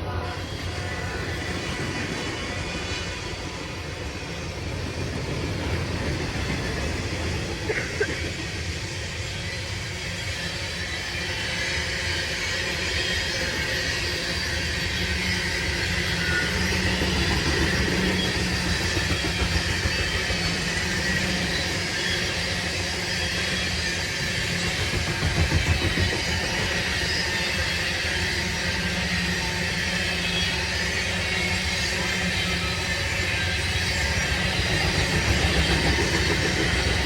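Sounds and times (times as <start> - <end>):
train rumbling past: 0.0 - 37.0.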